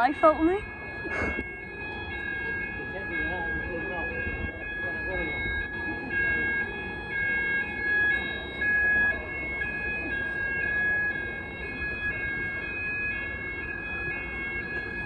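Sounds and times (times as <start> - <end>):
fire alarm steady tone: 0.0 - 15.0
fire alarm two-tone note: 0.0 - 15.0.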